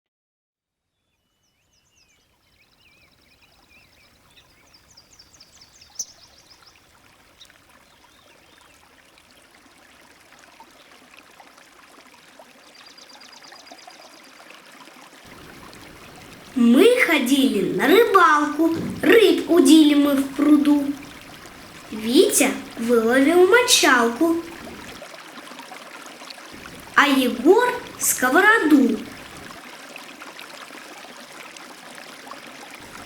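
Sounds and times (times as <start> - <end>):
stream water running: 1.4 - 33.0.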